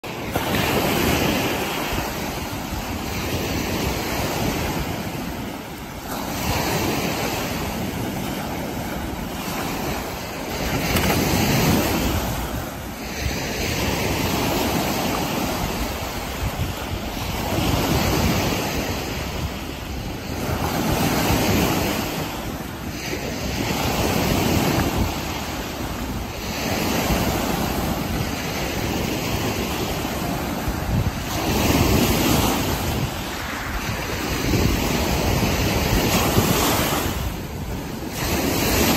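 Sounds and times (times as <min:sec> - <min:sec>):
small waves breaking on beach: 0:00.0 - 0:38.9
wind rumbling on microphone: 0:00.0 - 0:38.9.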